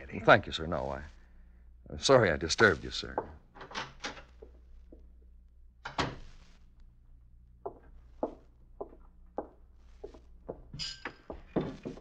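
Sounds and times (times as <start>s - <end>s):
low recording hum: 0.0s - 12.0s.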